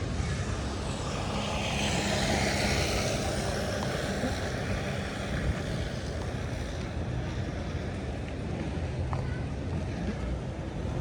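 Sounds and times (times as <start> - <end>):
broad traffic hiss: 0.0 - 11.0
vehicle engines running: 0.0 - 11.0.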